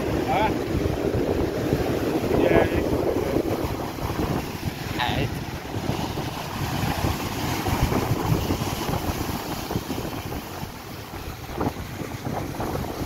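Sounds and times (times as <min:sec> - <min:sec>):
waves breaking on shingle beach: 0:00.0 - 0:13.0
wind buffeting microphone: 0:00.0 - 0:13.0.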